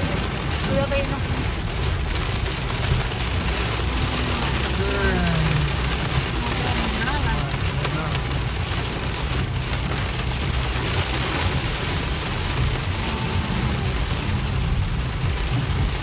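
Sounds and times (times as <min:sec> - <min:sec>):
engine and road rumble: 0:00.0 - 0:16.0
rain on a car: 0:00.0 - 0:16.0.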